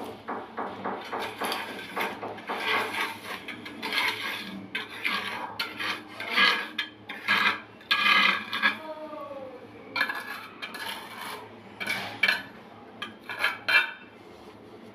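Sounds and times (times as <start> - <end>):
trowel scraping wet mortar: 1.0 - 8.8, 10.0 - 14.1.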